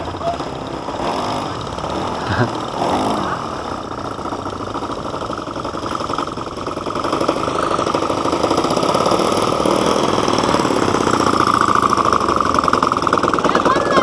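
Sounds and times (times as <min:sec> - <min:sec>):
model aircraft engine running: 0:00.0 - 0:14.0.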